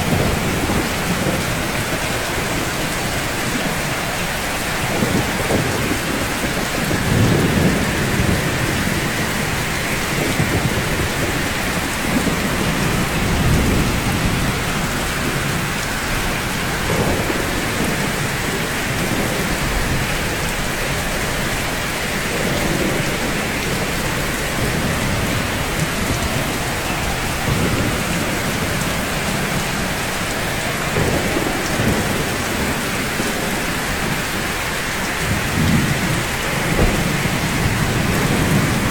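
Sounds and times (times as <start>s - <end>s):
rain falling on rooftops: 0.0s - 38.9s.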